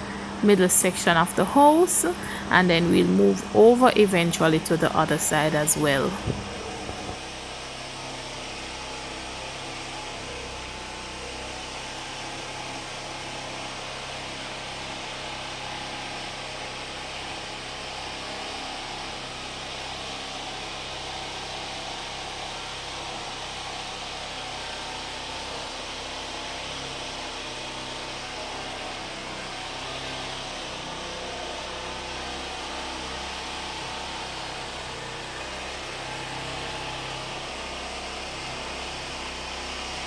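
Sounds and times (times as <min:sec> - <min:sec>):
generator engine running: 0:00.0 - 0:40.0.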